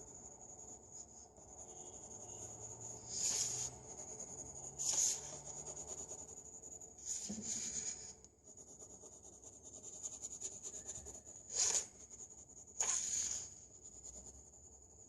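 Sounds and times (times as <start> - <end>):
drawing strokes on paper: 0.0 - 15.0.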